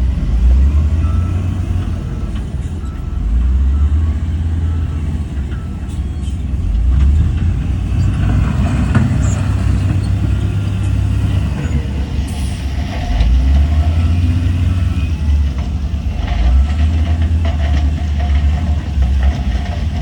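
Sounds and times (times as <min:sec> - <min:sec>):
heavy diesel engines droning: 0:00.0 - 0:20.0.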